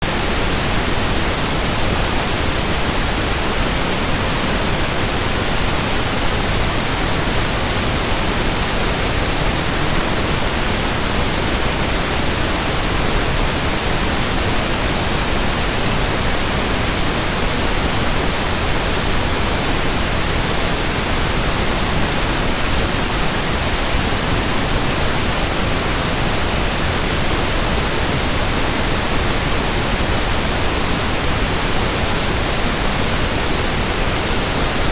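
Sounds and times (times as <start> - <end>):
pink noise hiss: 0.0 - 34.9.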